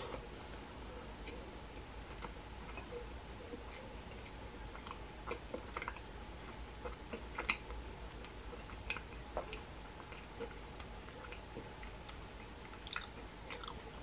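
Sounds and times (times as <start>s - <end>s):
faint steady hum: 0.0s - 14.0s
chewing with mouth clicks: 1.2s - 14.0s.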